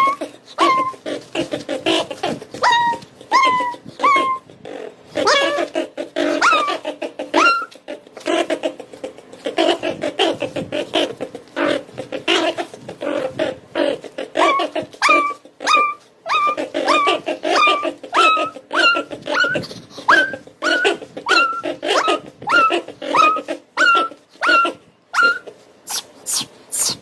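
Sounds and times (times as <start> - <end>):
dog squeaking: 0.0 - 4.5, 5.1 - 7.8, 9.6 - 27.0
dog growl-whining: 0.0 - 25.5.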